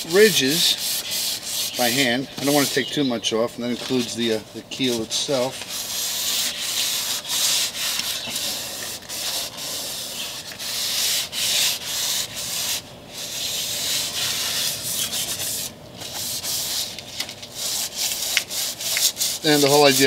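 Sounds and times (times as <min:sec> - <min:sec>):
sandpaper rubbing on boat hull: 0:00.0 - 0:03.0, 0:04.8 - 0:20.0.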